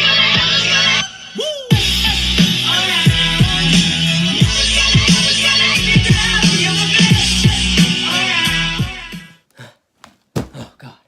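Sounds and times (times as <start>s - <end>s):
dubstep music with heavy beat: 0.0s - 9.3s.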